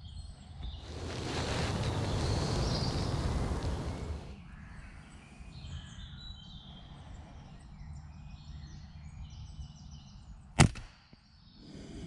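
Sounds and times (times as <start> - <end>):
faint woodland birdsong: 0.0 - 12.0.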